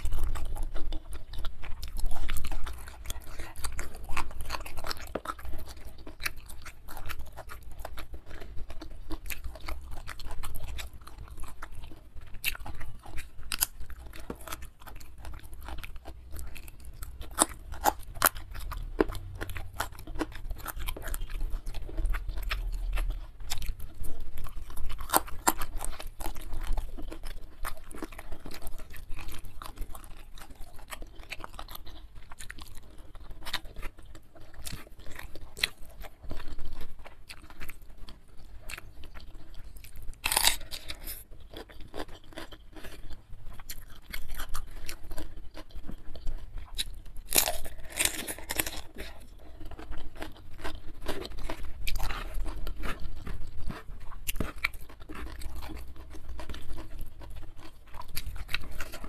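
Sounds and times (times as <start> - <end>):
chewing and crunching: 0.0 - 59.0.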